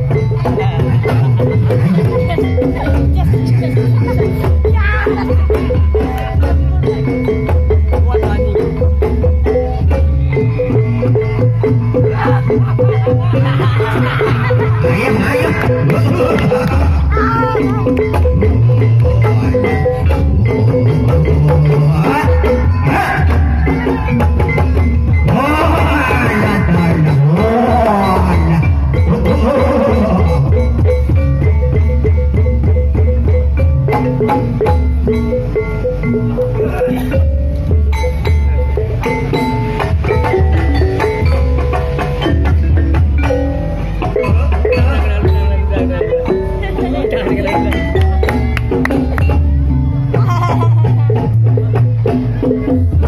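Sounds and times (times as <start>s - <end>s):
mallet notes: 0.0s - 53.0s
struck keyed instruments melody: 0.0s - 53.0s.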